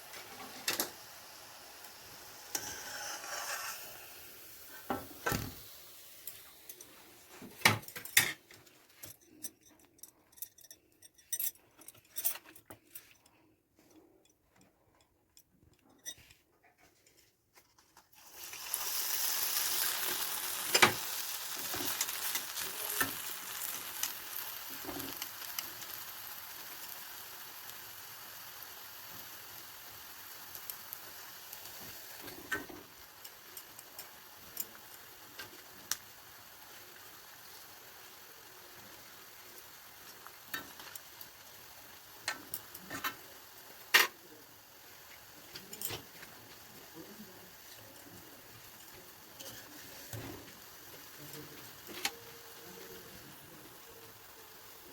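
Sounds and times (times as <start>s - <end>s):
food sizzling in hot oil: 0.0s - 8.4s, 18.2s - 54.9s.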